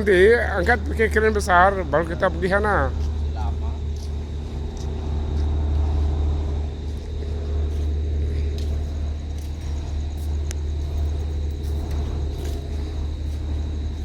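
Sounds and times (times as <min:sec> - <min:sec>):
heavy machinery drone: 0:00.0 - 0:14.0
high-pitched whine: 0:00.0 - 0:14.0.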